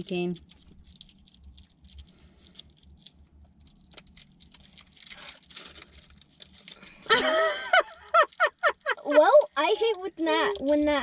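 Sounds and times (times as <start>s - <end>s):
plastic wrapper tearing and crinkling: 0.0s - 11.0s.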